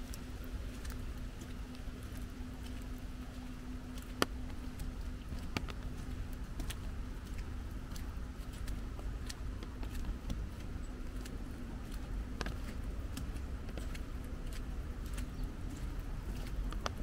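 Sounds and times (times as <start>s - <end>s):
raindrops tapping: 0.0s - 17.0s.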